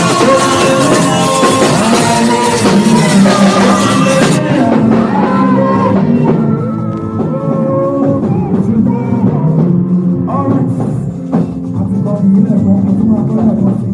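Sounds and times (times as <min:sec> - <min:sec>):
live music with singing: 0:00.0 - 0:13.9.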